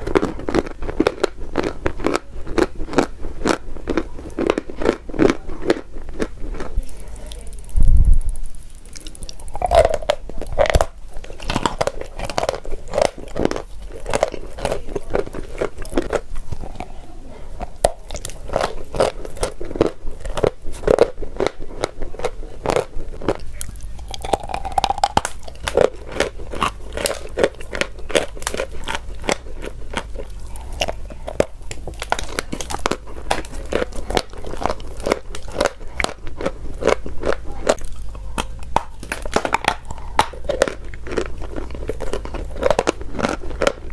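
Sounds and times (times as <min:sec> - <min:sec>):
chalk crunching when chewed: 0:00.0 - 0:43.9.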